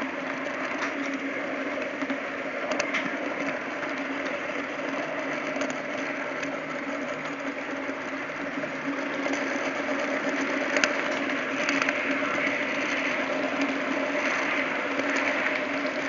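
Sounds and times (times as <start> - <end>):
model train mechanical hum: 0.0 - 16.0
rolling wheel noise: 0.0 - 16.0.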